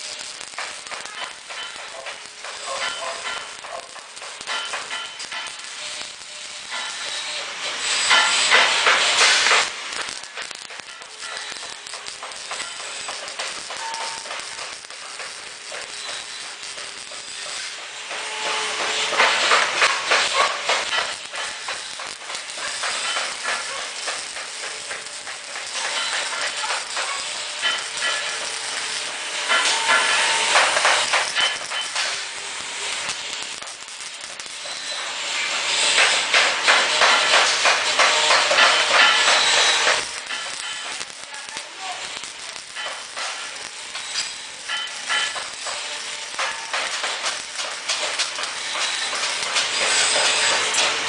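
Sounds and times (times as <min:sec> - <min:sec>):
welding arc crackling and hissing: 0:00.0 - 0:51.0.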